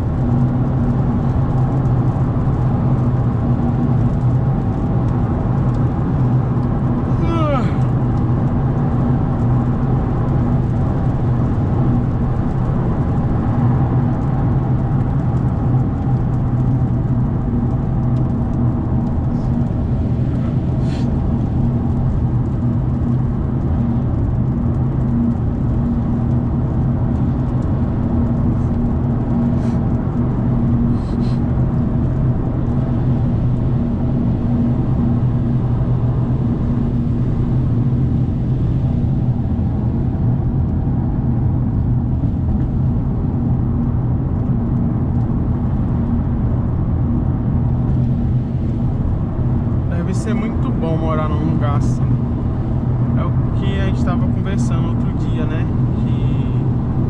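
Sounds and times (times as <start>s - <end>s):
engine drone: 0.0s - 57.0s
road and wind noise: 0.0s - 57.0s.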